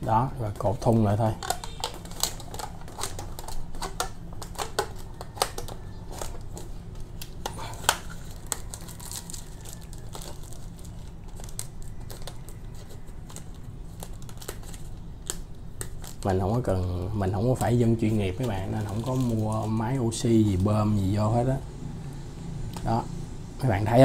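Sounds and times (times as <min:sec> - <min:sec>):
low steady hum: 0:00.0 - 0:24.0
plastic bag crinkling: 0:00.5 - 0:21.1.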